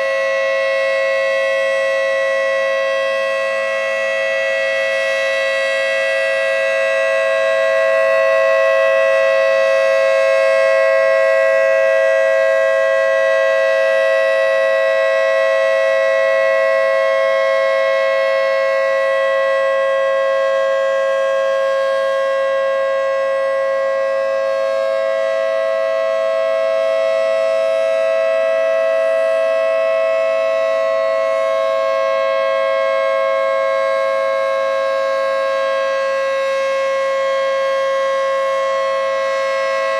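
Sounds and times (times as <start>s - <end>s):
dual-tone siren: 0.0s - 39.9s.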